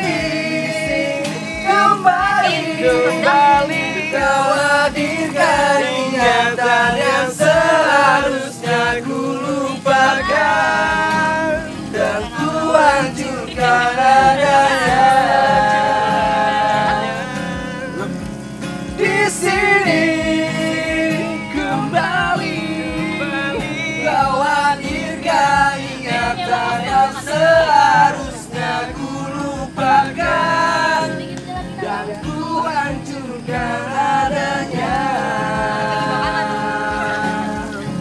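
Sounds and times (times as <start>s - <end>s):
person singing long notes: 0.0s - 18.3s, 19.0s - 38.0s
music with steady low beat: 0.0s - 38.0s.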